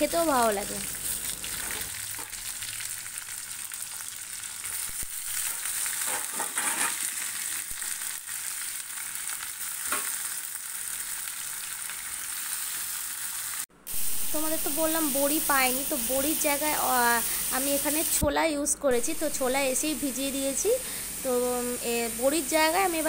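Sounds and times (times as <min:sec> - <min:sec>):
vegetables frying in hot oil: 0:00.0 - 0:18.3, 0:18.9 - 0:23.0.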